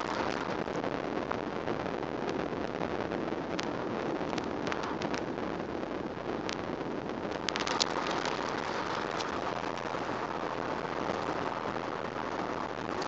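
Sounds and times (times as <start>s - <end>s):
tyre and wind noise in car cabin: 0.0s - 13.0s.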